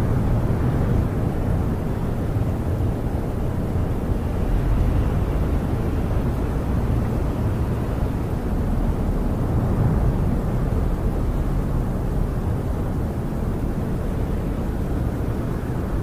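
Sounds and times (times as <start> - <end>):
snowstorm wind against camper: 0.0 - 16.0.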